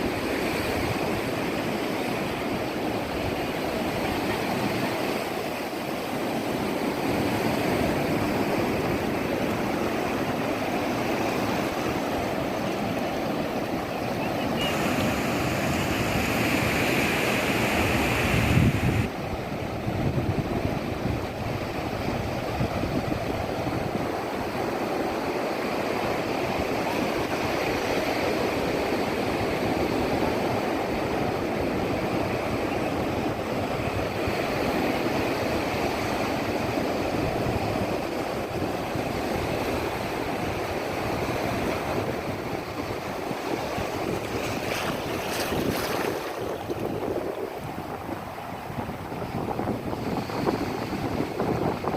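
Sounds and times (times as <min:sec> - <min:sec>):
sea surf breaking on beach: 0:00.0 - 0:51.9
wind rumbling on microphone: 0:00.0 - 0:51.9.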